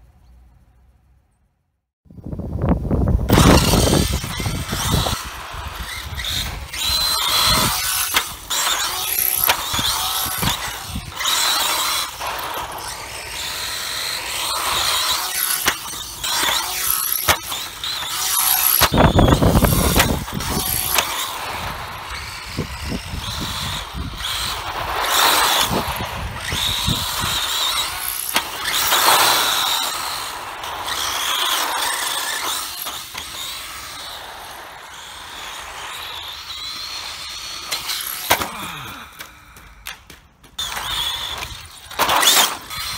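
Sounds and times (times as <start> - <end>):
rc car motor whining: 3.1 - 42.9.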